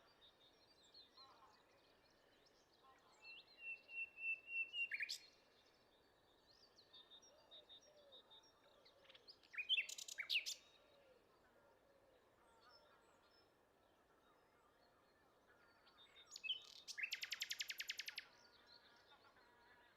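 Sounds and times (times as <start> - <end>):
songbirds singing and calling: 0.0 - 19.9.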